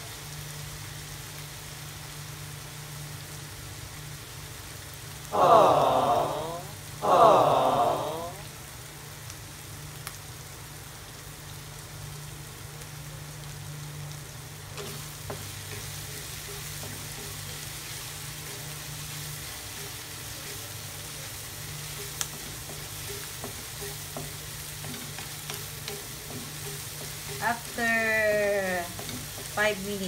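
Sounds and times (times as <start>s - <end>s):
meat sizzling in a wok: 0.0s - 7.2s, 7.8s - 30.0s.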